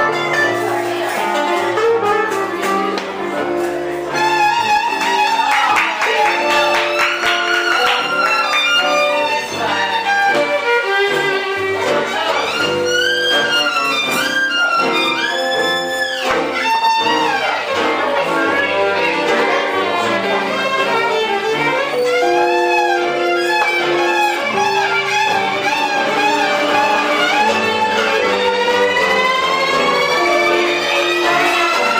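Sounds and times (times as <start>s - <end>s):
live band music: 0.0s - 31.9s
violin with sliding notes: 0.0s - 31.9s.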